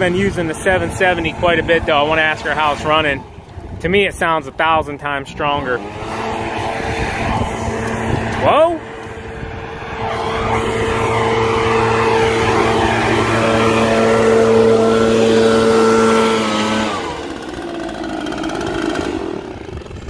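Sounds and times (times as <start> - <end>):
fan winding down: 0.0 - 20.0
leaf blower engine running: 0.0 - 20.0.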